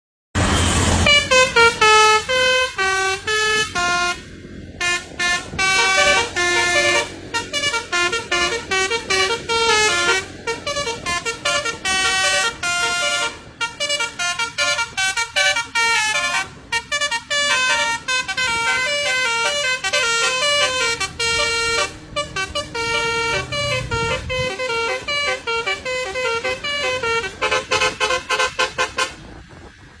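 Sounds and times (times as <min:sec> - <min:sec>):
bus musical horn melody: 0:00.4 - 0:29.6.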